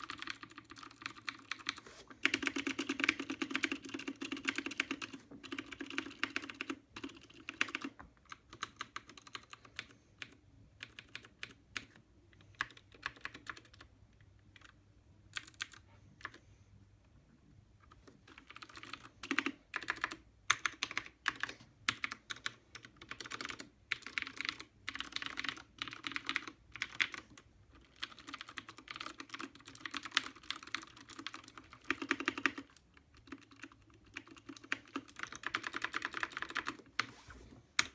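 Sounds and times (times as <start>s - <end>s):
mechanical keyboard typing: 0.0s - 13.9s, 14.5s - 16.4s, 17.9s - 37.0s.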